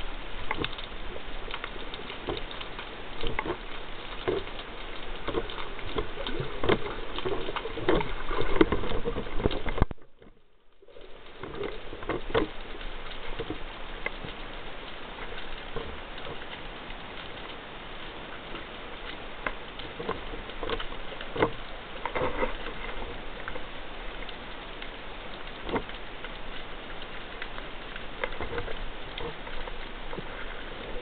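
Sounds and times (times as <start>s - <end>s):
crackling clicks and knocks: 0.0s - 31.0s
underwater water wash: 0.0s - 31.0s.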